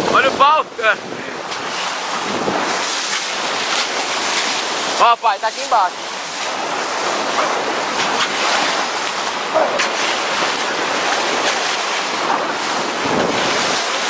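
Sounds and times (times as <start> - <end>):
wind buffeting microphone: 0.0 - 5.0, 5.9 - 14.0
sea water splashing along bow: 0.0 - 14.0.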